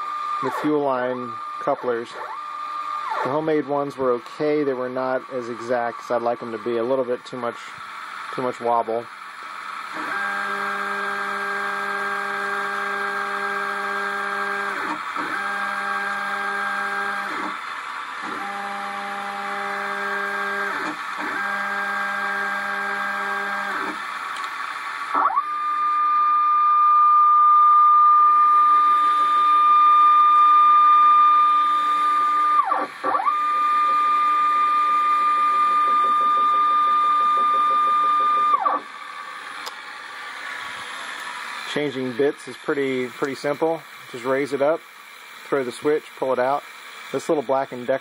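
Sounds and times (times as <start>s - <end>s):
stepper motors whining: 0.0s - 48.0s.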